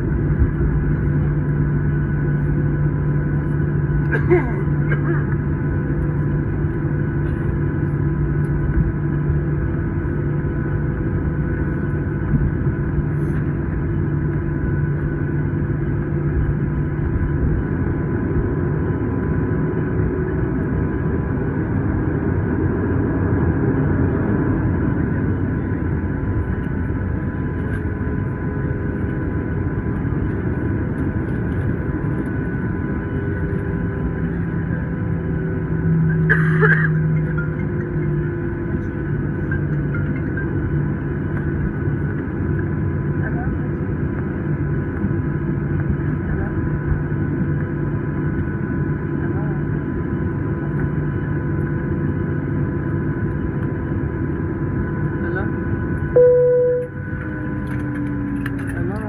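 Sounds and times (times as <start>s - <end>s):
steady whining tones: 0.0s - 58.7s
aircraft cabin drone: 0.0s - 59.0s
low steady hum: 0.0s - 59.0s.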